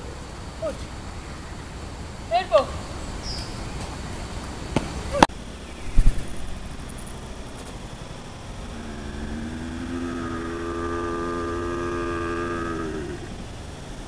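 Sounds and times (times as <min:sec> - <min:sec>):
passing vehicle engine hum: 0:00.0 - 0:14.0.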